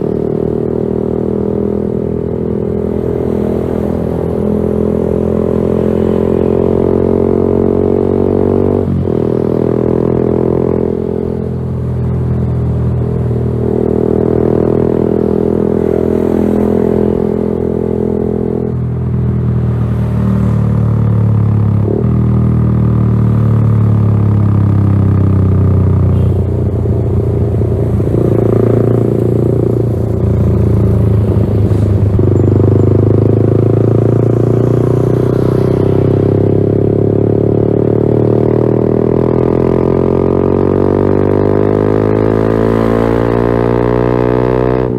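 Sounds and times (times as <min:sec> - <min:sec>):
motorcycle engine exhaust note: 0:00.0 - 0:44.9.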